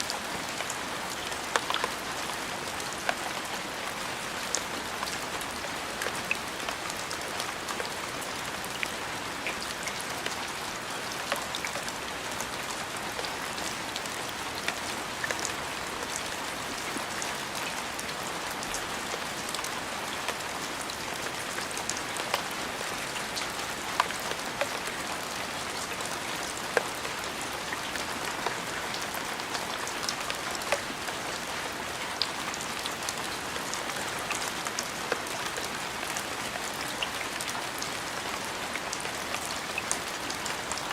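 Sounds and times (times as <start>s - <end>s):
rain hissing on a surface: 0.0s - 40.9s.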